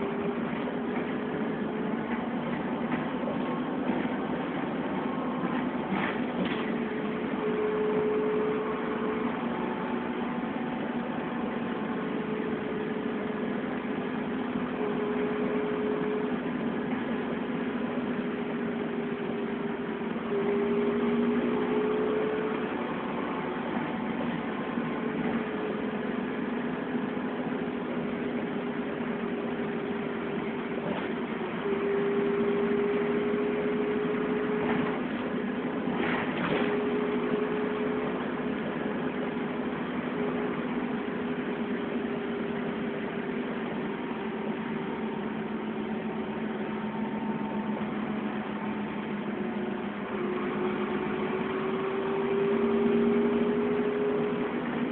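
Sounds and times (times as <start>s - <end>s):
bus engine humming and whining: 0.0s - 54.9s.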